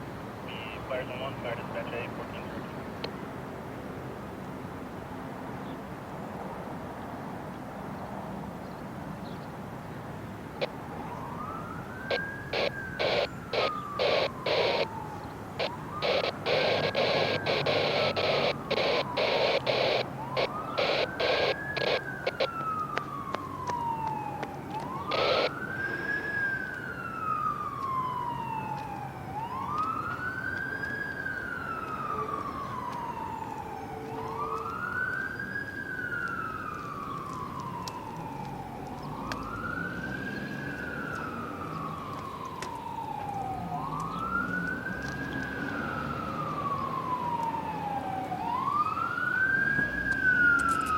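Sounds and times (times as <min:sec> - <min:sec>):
emergency siren wailing: 0:00.4 - 0:03.1, 0:10.4 - 0:50.9.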